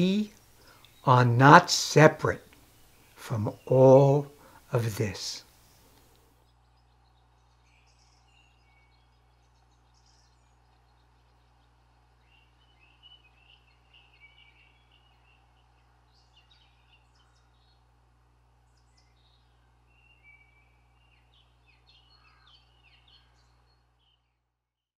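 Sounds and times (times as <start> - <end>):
birds chirping: 0.0 - 24.4.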